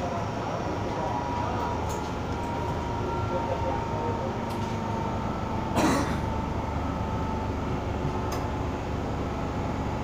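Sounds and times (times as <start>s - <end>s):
metro car low rumble: 0.0s - 10.0s.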